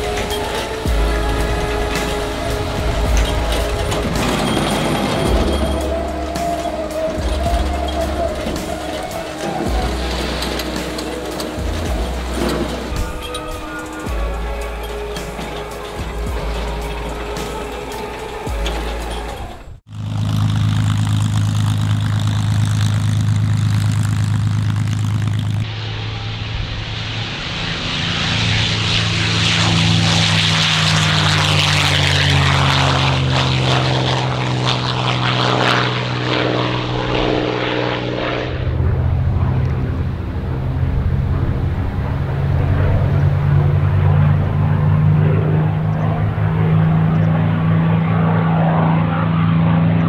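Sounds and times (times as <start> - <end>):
propeller aircraft engine howl: 0.0 - 50.0.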